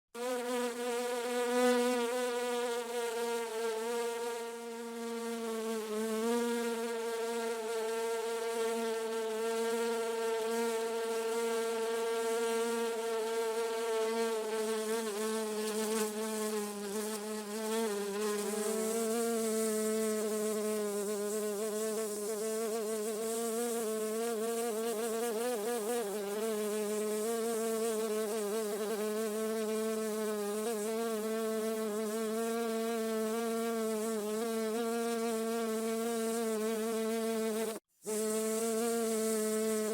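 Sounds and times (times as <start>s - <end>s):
bee buzzing: 0.2s - 39.9s.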